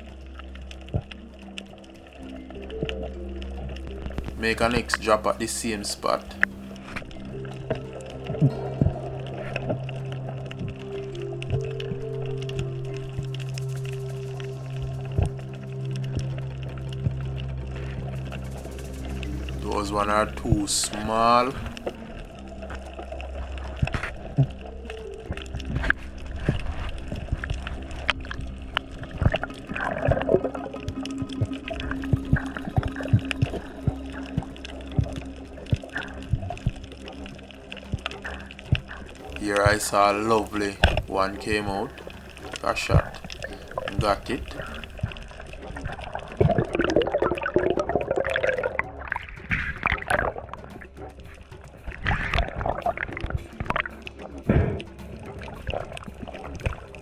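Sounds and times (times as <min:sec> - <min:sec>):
sharp underwater clicks: 0:00.0 - 0:57.0
water gurgle: 0:00.0 - 0:57.0
water moving underwater: 0:00.0 - 0:57.0.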